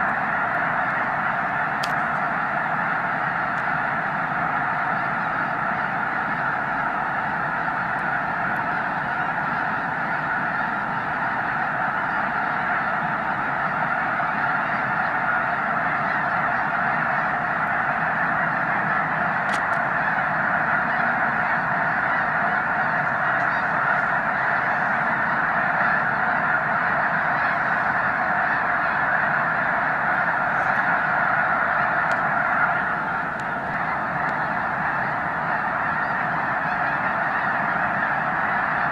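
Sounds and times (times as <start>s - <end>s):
flock of geese calling: 0.0s - 38.9s.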